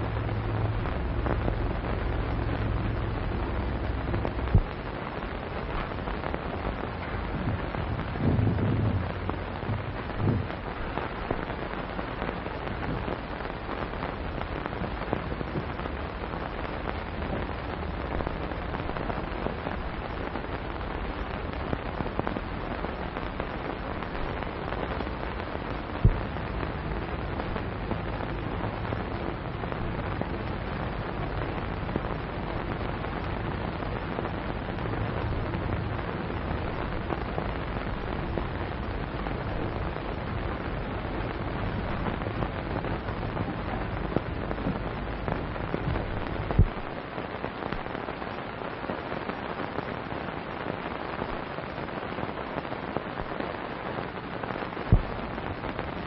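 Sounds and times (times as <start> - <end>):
old film soundtrack hiss and crackle: 0.0 - 56.0
scattered pops: 0.0 - 56.0.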